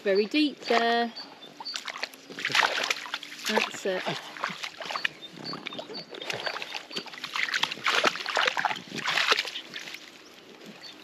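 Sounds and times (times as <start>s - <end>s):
splashing in shallow water: 0.6s - 11.0s.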